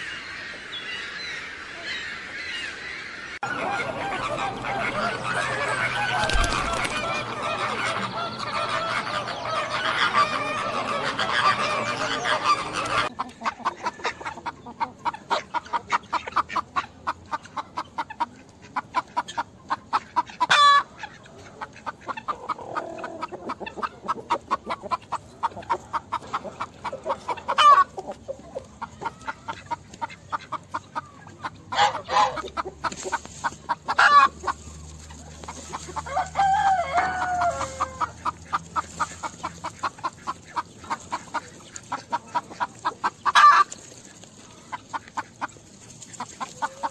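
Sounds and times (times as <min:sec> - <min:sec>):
chickens clucking: 0:00.0 - 0:46.9
flock of birds calling: 0:00.0 - 0:46.9
chicken squawks: 0:01.7 - 0:43.8.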